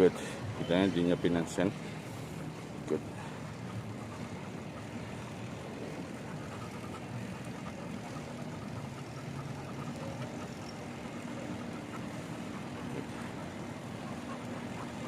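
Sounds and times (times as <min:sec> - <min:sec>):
outdoor street noise: 0:00.0 - 0:15.0
vehicle engine humming: 0:00.0 - 0:15.0.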